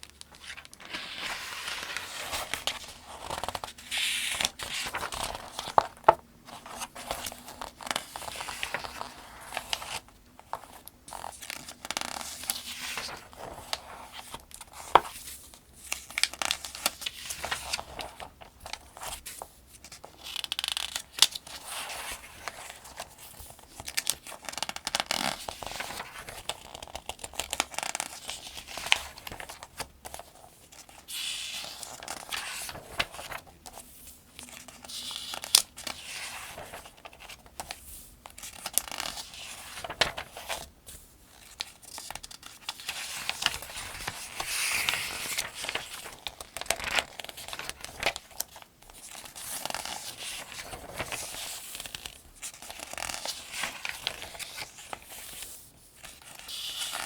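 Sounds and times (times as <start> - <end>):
paper pages turning: 0.0 - 57.0.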